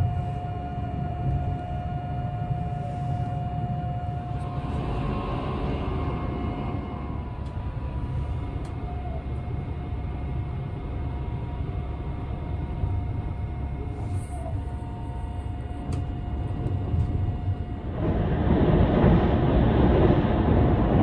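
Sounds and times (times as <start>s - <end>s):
electric train rumble: 0.0s - 21.0s
faint steady whines: 0.0s - 21.0s.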